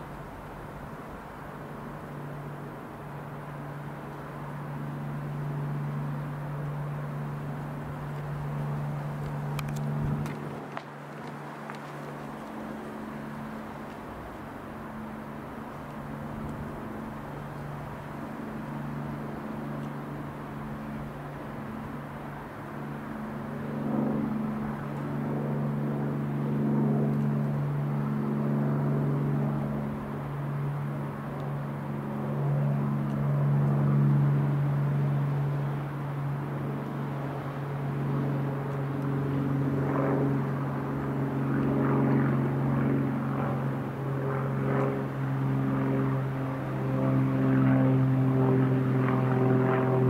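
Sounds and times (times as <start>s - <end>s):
propeller aircraft droning overhead: 0.0s - 50.0s.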